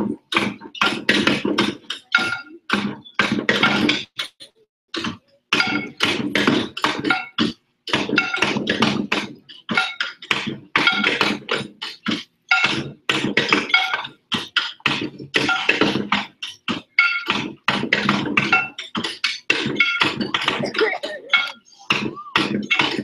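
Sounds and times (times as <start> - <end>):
wheelbarrows struck clanging: 0.0 - 4.1, 4.9 - 23.0.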